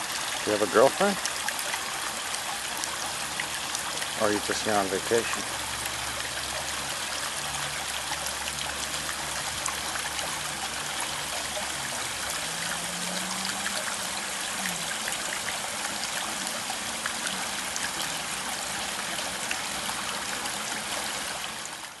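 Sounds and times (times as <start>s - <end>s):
water trickling in pond: 0.0s - 22.0s.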